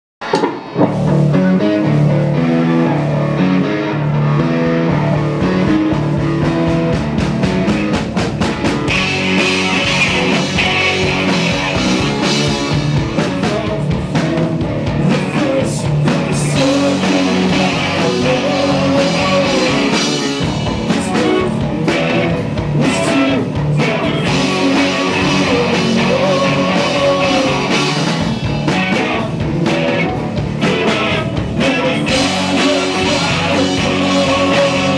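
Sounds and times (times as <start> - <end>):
rock band playing live: 0.2 - 34.9.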